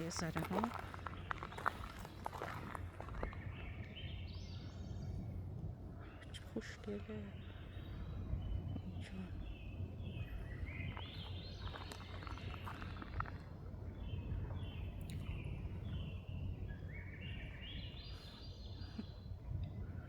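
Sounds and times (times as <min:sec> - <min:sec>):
low steady outdoor rumble: 0:00.0 - 0:20.0
songbird singing: 0:00.0 - 0:20.0.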